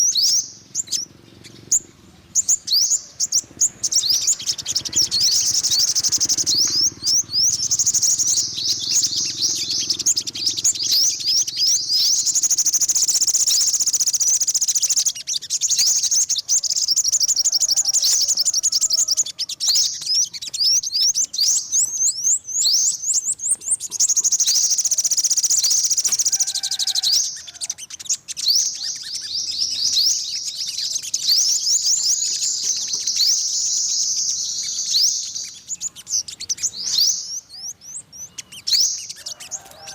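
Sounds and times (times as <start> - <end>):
sunbird high twittering: 0.0 - 39.9.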